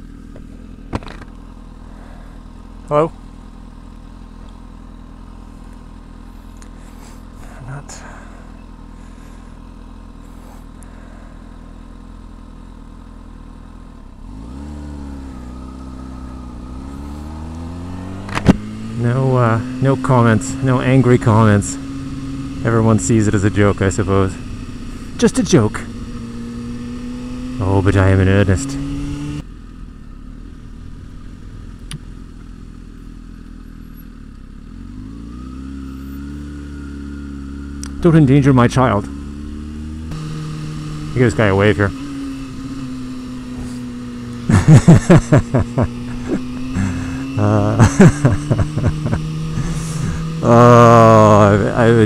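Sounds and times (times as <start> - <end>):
motorcycle engine idling and revving: 0.0 - 52.0.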